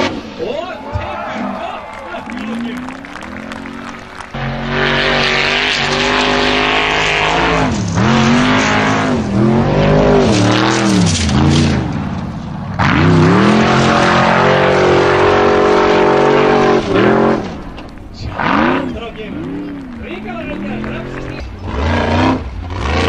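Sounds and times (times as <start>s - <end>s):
race engine revving: 0.0s - 23.0s
spinning tyres throwing dirt: 0.0s - 23.0s.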